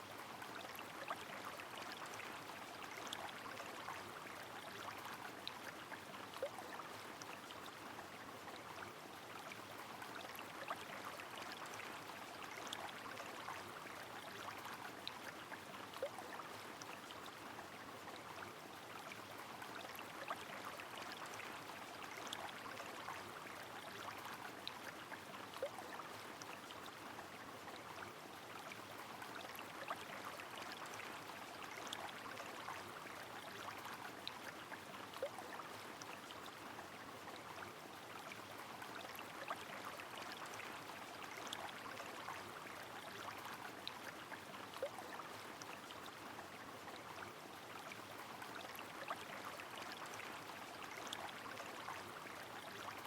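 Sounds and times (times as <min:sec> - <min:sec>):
flowing river water: 0:00.0 - 0:53.0.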